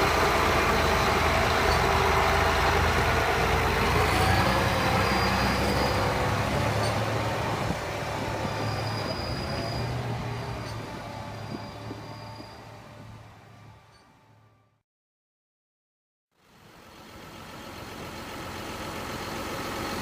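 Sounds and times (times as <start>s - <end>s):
tractor engine drone: 0.0s - 14.8s, 16.4s - 20.0s.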